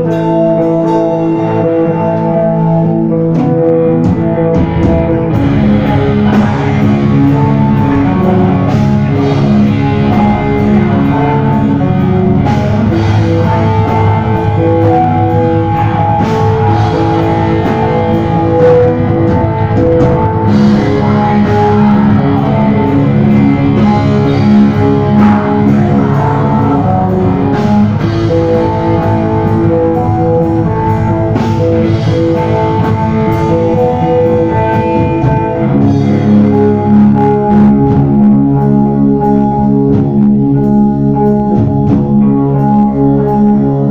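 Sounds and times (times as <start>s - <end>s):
drum kit: 0.0s - 43.9s
electric guitars: 0.0s - 43.9s.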